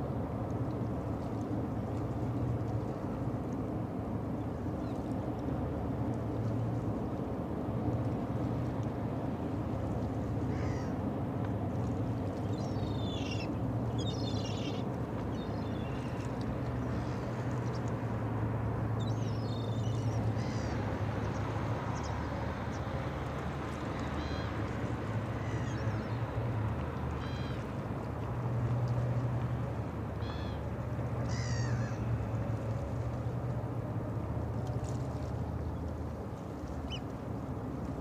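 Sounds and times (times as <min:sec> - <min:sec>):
low ship engine hum: 0:00.0 - 0:38.0.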